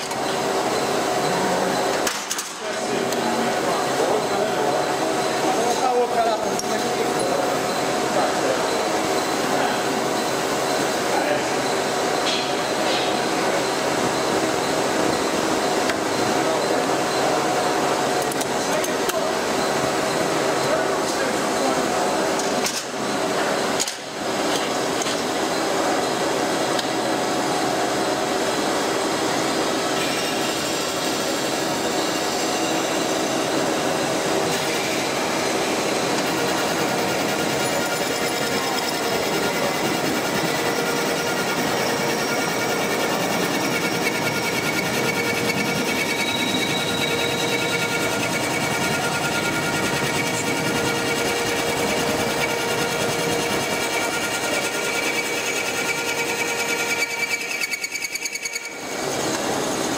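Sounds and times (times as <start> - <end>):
machine whining tones: 0.0 - 59.9
milling machine cutting metal: 0.0 - 59.9.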